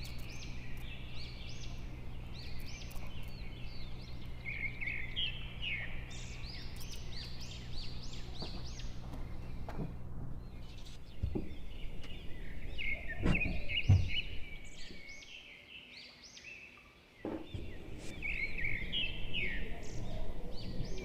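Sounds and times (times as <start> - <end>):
steady low hum: 0.0 - 15.4, 17.3 - 21.0
small birds chirping: 0.0 - 21.0.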